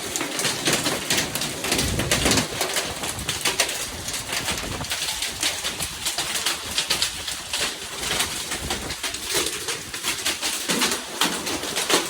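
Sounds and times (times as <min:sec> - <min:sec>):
hailstones clattering: 0:00.0 - 0:12.0.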